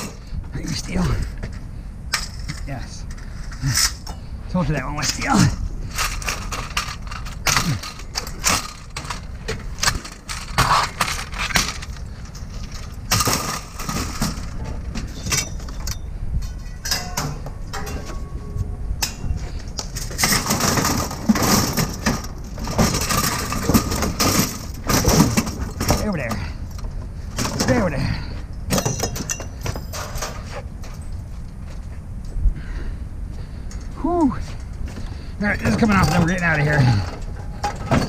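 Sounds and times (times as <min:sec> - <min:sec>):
metal scrap clanking and rattling: 0:00.0 - 0:31.2, 0:34.6 - 0:38.0.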